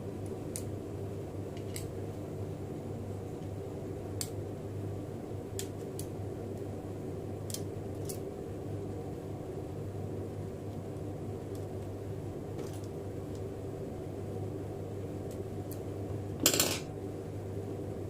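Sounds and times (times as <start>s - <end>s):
low hum of bench equipment: 0.0s - 18.0s.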